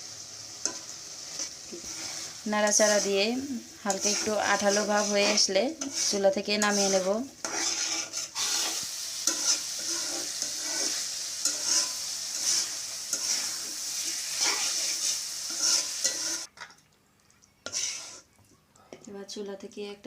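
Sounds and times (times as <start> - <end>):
filling sizzling in a pan: 0.0 - 16.8, 17.6 - 18.4
spatula scraping a pan: 0.6 - 16.5, 17.6 - 18.3.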